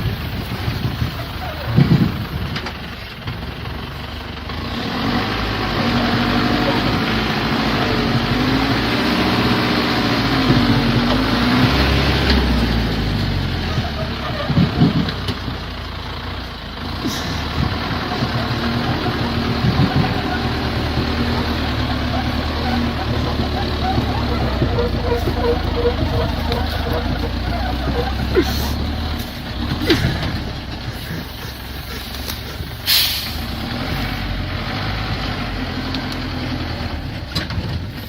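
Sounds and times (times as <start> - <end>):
wood chipper engine running: 0.0 - 38.0.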